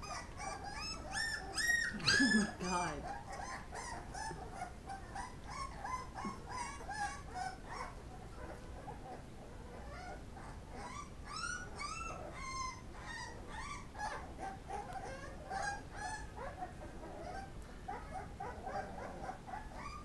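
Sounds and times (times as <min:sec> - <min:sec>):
puppies whimpering and yipping: 0:00.0 - 0:20.0.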